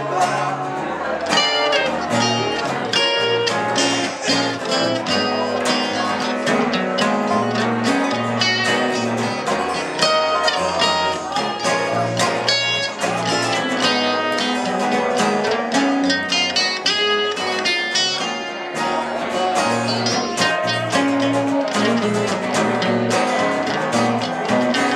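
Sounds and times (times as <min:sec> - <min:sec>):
acoustic guitar playing: 0:00.0 - 0:24.9
dobro plucked notes: 0:00.0 - 0:24.9.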